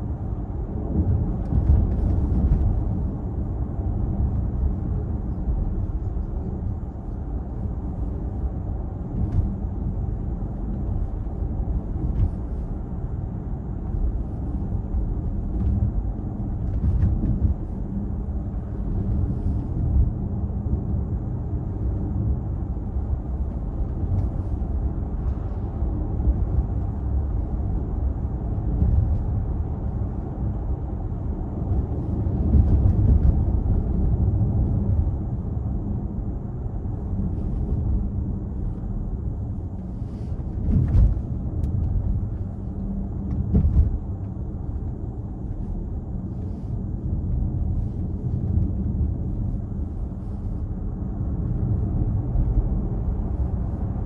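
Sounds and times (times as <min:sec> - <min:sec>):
low road rumble: 0:00.0 - 0:54.0.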